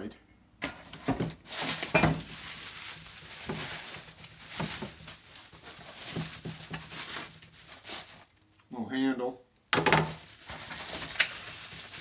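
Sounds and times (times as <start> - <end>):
plastic packaging crinkling: 0.9 - 8.5, 10.0 - 12.0.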